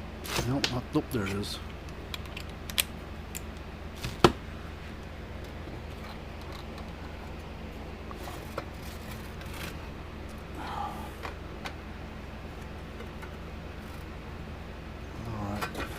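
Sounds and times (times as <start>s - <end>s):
low electrical hum: 0.0s - 15.9s.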